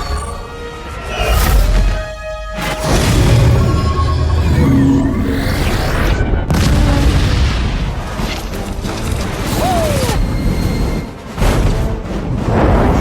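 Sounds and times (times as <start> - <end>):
film score: 0.0 - 13.0.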